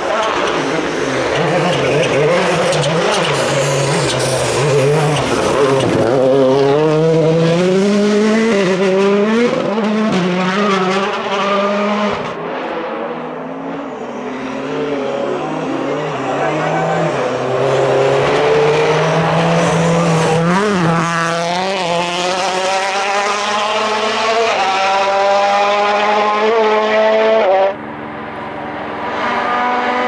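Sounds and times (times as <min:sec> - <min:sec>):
rally car engine accelerating: 0:00.0 - 0:30.0
rally car engine steady: 0:00.0 - 0:30.0.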